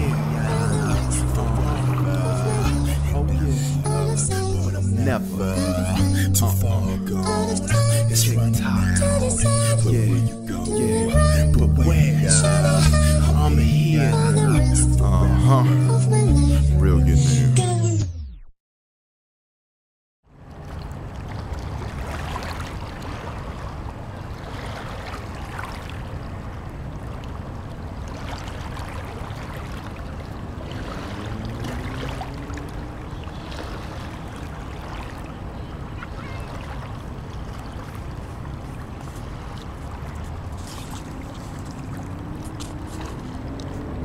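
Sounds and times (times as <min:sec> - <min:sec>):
river water lapping: 0:00.0 - 0:16.3, 0:20.3 - 0:44.0.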